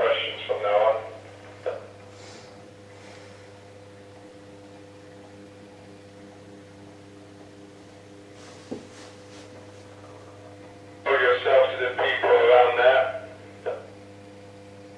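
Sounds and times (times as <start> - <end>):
electrical hum: 0.0 - 14.9.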